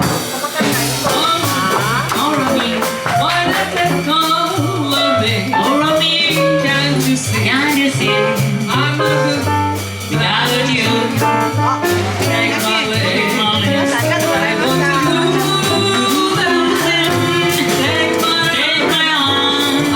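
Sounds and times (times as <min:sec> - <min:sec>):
drums with cymbal strokes: 0:00.0 - 0:19.9
jazz melody line: 0:00.0 - 0:19.9
walking bass line: 0:00.0 - 0:19.9.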